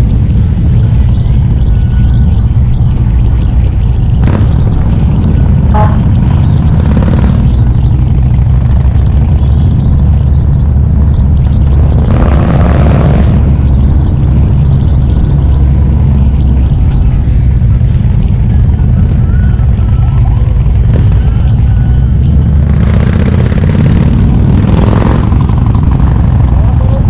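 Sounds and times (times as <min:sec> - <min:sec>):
motorcycle engine rumbling: 0:00.0 - 0:27.0.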